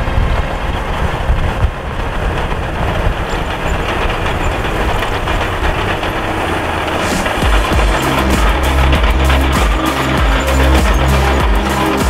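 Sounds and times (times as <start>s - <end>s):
diesel engine rumbling: 0.0s - 12.0s
steel tracks clattering: 0.0s - 12.0s.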